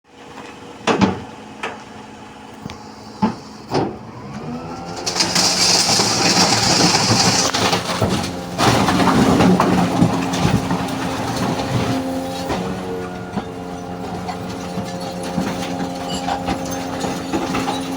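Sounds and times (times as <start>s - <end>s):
truck engine running: 0.2s - 17.9s.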